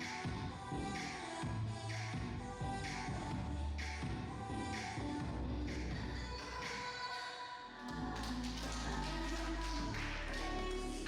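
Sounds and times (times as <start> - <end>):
upbeat pop dance music: 0.0 - 11.0.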